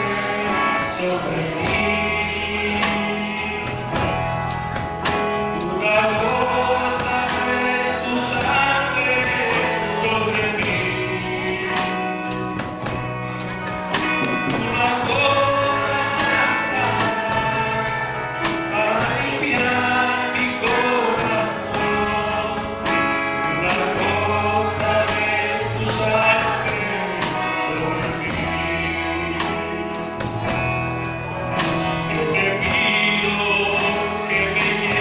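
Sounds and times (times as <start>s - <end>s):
band playing: 0.0s - 35.0s
people singing: 0.0s - 35.0s.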